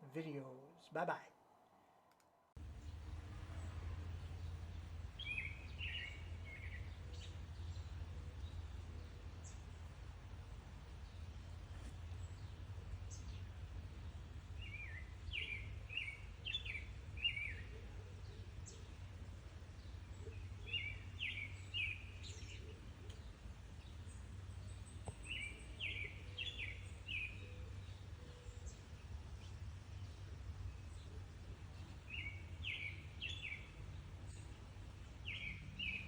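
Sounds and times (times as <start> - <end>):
low background rumble: 1.0 - 36.0
bird chirping: 2.6 - 10.0, 10.8 - 36.0.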